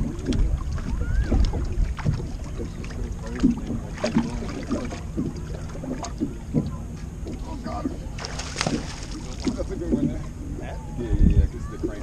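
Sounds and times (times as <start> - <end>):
waves slapping against hull: 0.0 - 12.0
wind buffeting microphone: 0.0 - 12.0.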